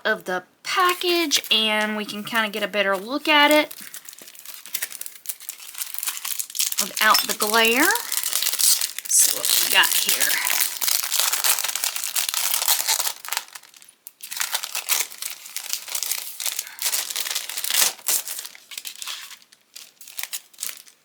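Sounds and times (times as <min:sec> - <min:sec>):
plastic packaging crinkling: 0:00.8 - 0:21.0.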